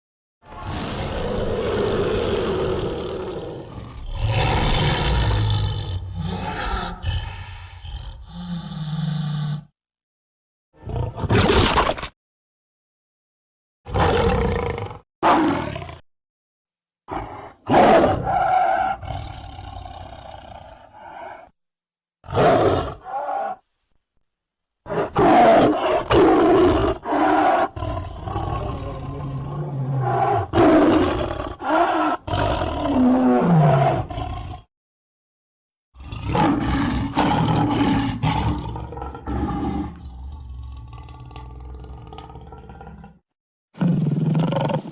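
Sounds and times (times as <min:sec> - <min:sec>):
animated lion roars: 0:00.4 - 0:09.8, 0:10.8 - 0:12.2, 0:13.9 - 0:16.0, 0:17.1 - 0:21.6, 0:22.2 - 0:23.6, 0:24.8 - 0:34.7, 0:36.0 - 0:44.9.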